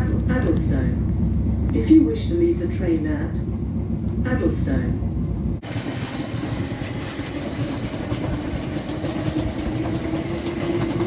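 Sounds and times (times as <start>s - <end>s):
electric train hum: 0.0s - 11.0s
train wheels rumbling on rails: 0.0s - 11.0s.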